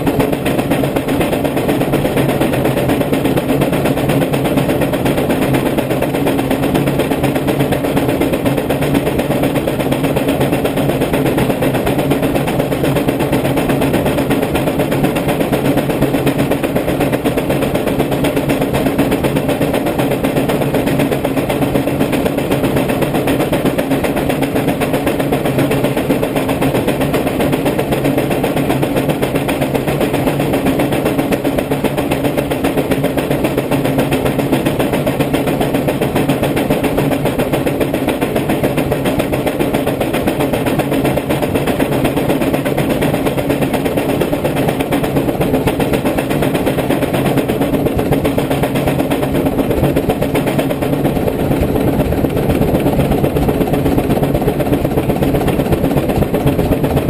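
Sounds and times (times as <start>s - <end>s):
steam engine exhaust chuffing: 0.0s - 57.0s.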